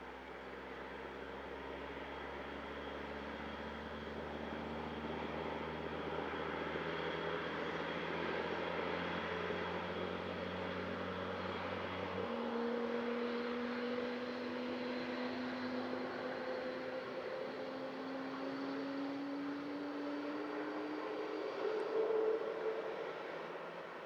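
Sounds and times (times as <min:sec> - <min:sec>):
airliner engines running: 0:00.0 - 0:24.0.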